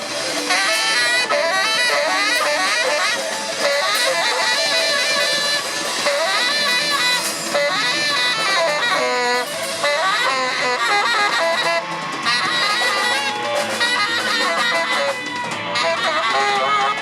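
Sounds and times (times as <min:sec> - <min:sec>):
lead instrument quick melodic lines: 0:00.0 - 0:17.0
live band playing instrumental: 0:00.0 - 0:17.0.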